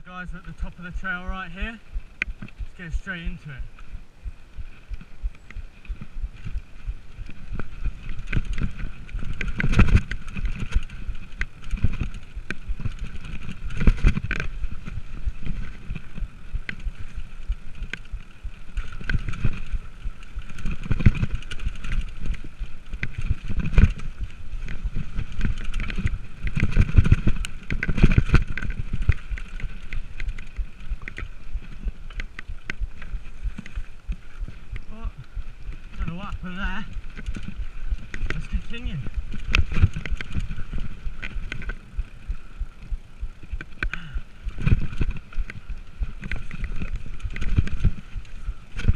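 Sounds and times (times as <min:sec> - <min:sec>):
bike rattling and clicking: 0:00.0 - 0:48.9
tyres rumbling over rough ground: 0:00.0 - 0:48.9
bike jolting over bumps: 0:04.7 - 0:48.9.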